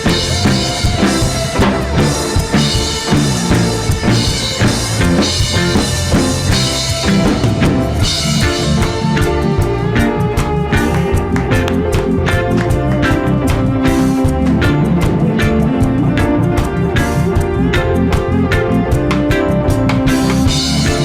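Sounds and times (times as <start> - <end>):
bass drum and snare beat: 0.0 - 21.0
live band playing: 0.0 - 21.0.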